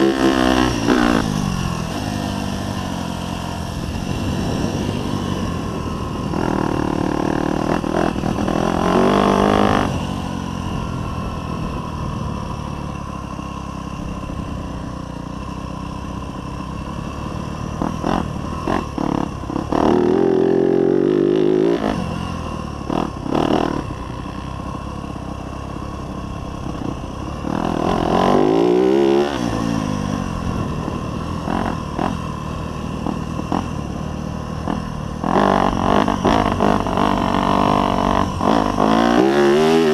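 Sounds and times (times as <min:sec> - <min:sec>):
dirt bike engine accelerating: 0:00.0 - 0:39.9.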